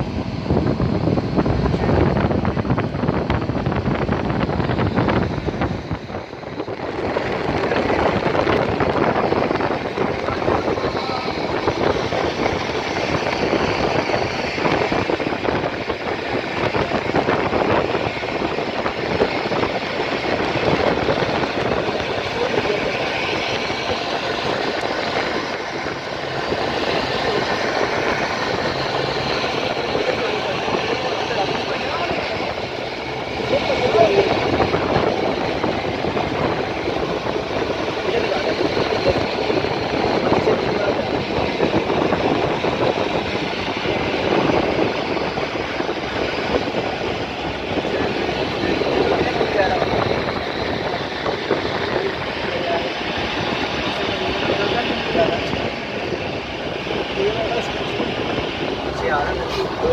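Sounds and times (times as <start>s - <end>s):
cable-car lift running: 0.0s - 59.9s.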